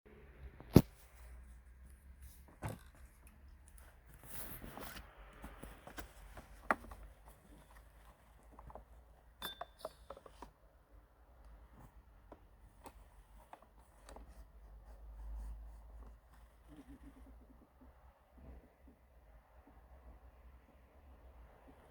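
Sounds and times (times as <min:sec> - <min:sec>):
faint clicks and knocks: 0:00.6 - 0:19.0.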